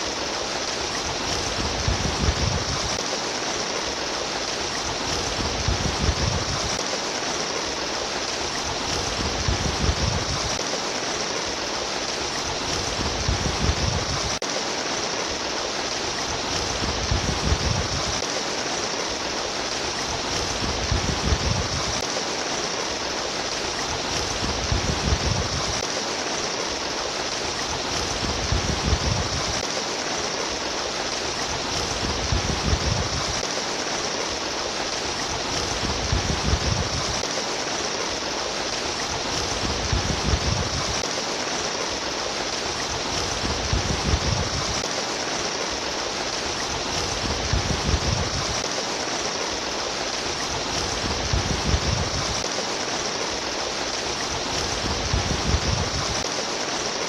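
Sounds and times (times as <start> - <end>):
running water rushing and splashing: 0.0 - 57.0.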